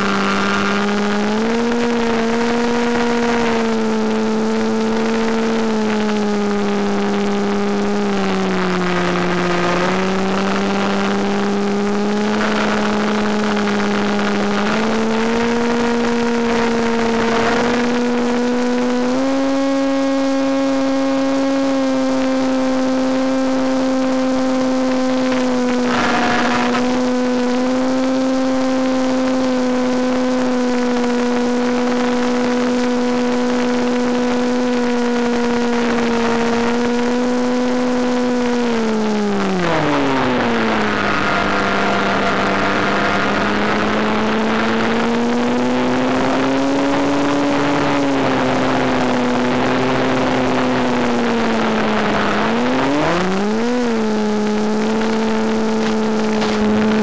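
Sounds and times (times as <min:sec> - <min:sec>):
model plane motor whine: 0:00.0 - 0:57.0.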